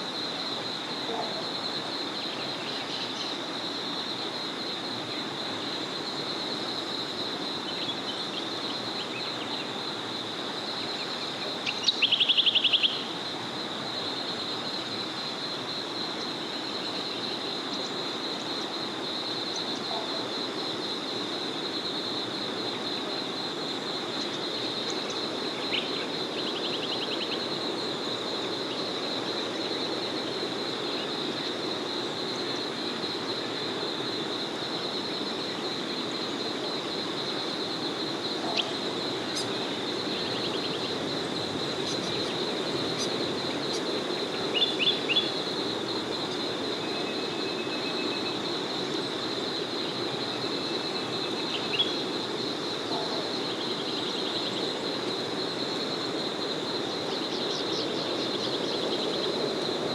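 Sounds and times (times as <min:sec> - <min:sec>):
high pulsing insect chorus: 0:00.0 - 0:59.9.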